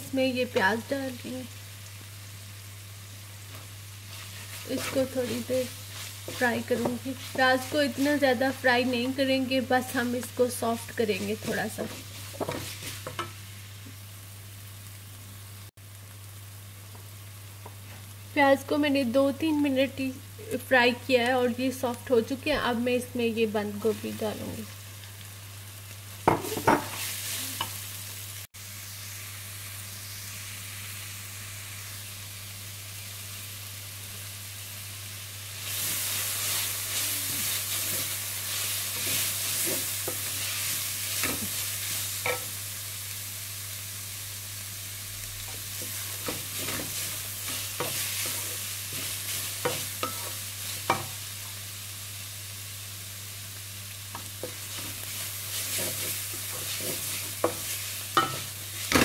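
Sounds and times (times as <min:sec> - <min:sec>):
cabbage sizzling in oil: 0:00.0 - 0:59.0.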